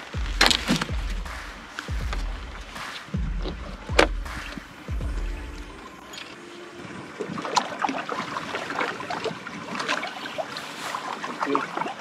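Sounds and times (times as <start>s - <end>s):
small waves splashing against hull: 0.0s - 12.0s.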